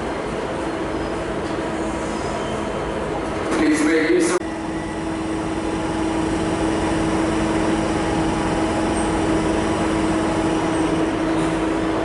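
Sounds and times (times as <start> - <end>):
train electric hum and rumble: 0.0 - 12.0.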